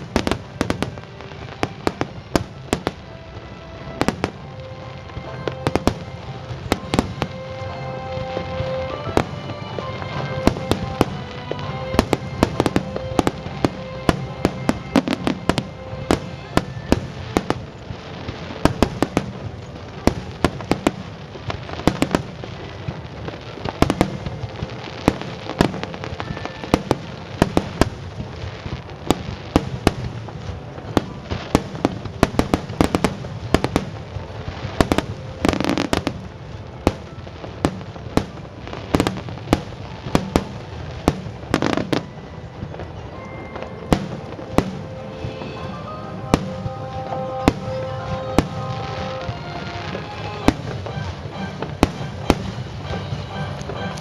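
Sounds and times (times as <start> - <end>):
fireworks bangs: 0.0 - 54.0
fireworks rumble and crackle: 0.0 - 54.0.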